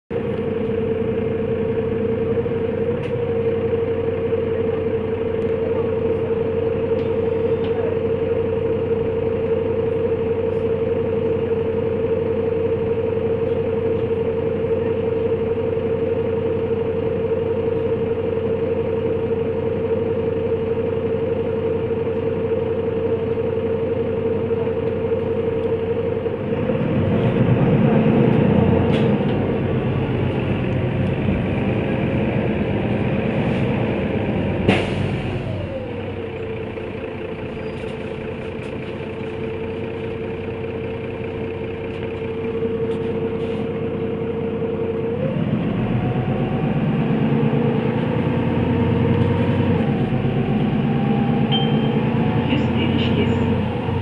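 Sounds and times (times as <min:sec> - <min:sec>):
bus engine idling: 0:00.1 - 0:54.0.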